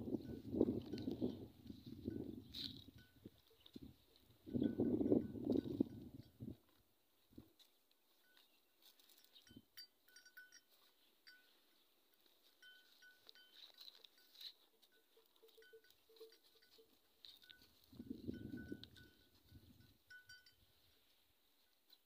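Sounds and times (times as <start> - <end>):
camel browsing a shrub: 0.5 - 4.4, 7.2 - 22.0.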